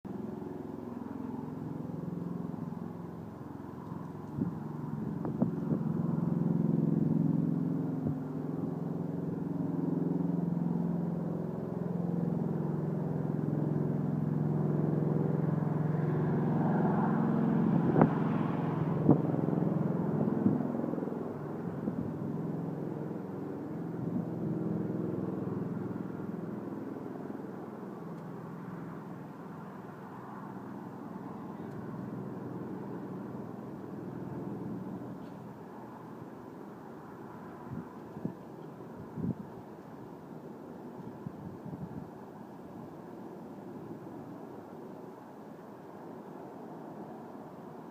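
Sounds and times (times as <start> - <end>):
helicopter flying over: 0.1 - 47.9.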